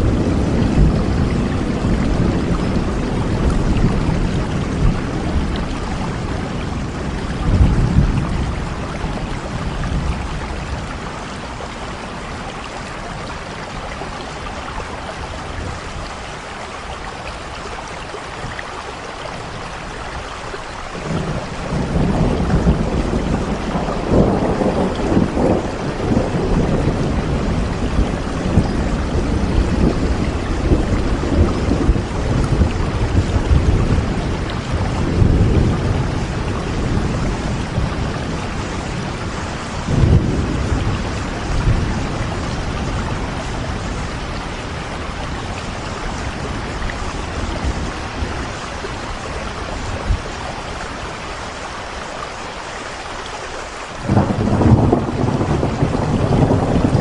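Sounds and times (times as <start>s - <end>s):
rolling thunder: 0.0s - 16.2s, 20.9s - 51.2s, 54.0s - 57.0s
rain falling: 0.0s - 57.0s.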